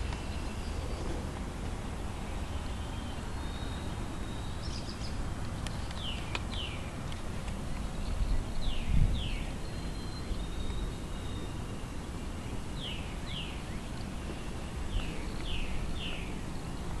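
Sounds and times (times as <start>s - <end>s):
bird chirping: 2.2s - 16.9s.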